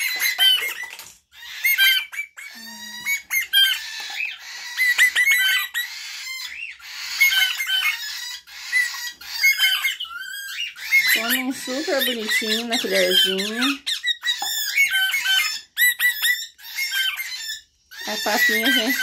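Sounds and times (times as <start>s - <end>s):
chick squeaky begging calls: 0.0s - 19.0s.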